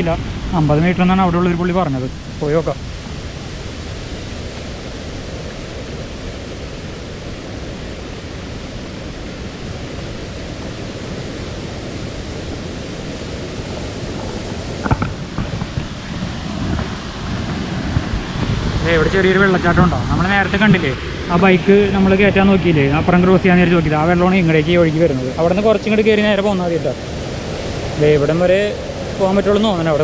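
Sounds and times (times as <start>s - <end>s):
flowing water from waterfall: 0.0s - 30.0s.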